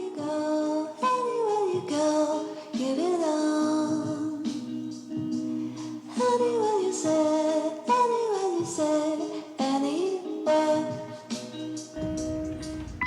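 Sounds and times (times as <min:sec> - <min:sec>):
woman singing: 0:00.0 - 0:12.2.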